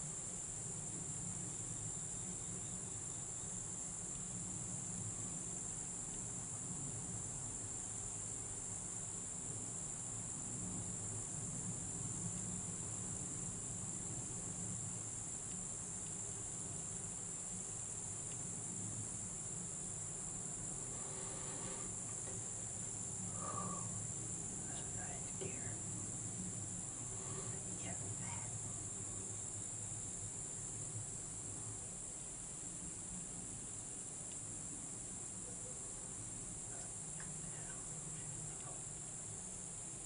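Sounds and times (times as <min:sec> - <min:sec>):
low steady rumble: 0:00.0 - 0:40.0
insects trilling: 0:00.2 - 0:40.0.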